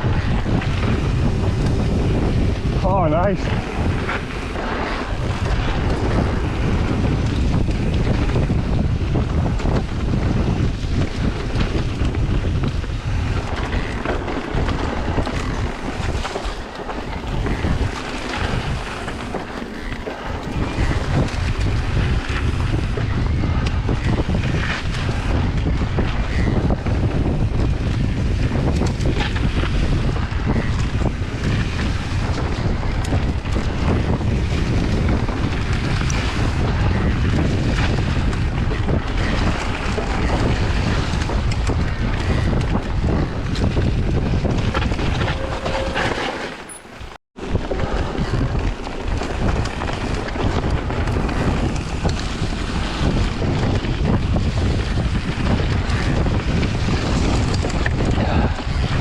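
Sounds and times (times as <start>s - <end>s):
bike tyres rumbling and rattling: 0.0s - 59.0s
wind buffeting microphone: 0.0s - 59.0s.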